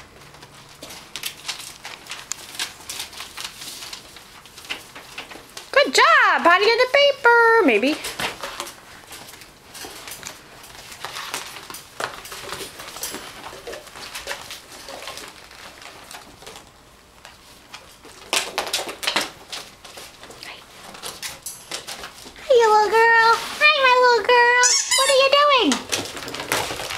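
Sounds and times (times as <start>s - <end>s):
puppies rustling paper: 0.0s - 26.9s.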